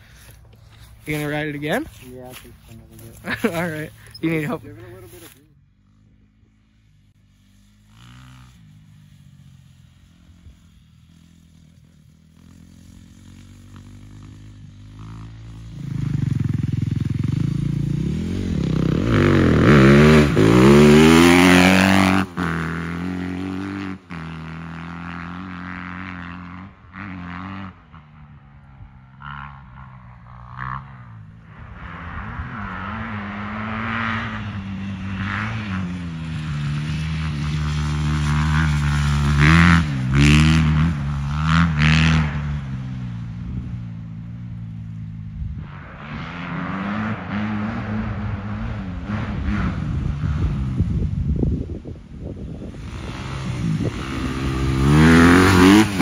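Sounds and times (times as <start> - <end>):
dirt bike engine revving: 0.1 - 43.8, 45.8 - 51.3, 52.5 - 56.0.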